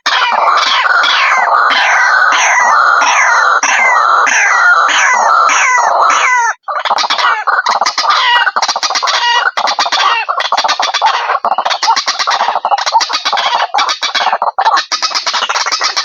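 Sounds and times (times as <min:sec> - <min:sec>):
bird calling harshly: 0:00.0 - 0:16.0.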